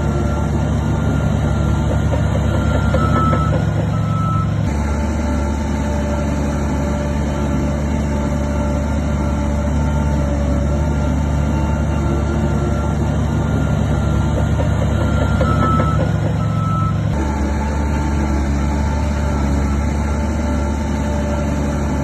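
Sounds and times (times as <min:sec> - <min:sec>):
heavy machinery engine drone: 0:00.0 - 0:22.0
reversing alarm beeping: 0:00.0 - 0:22.0.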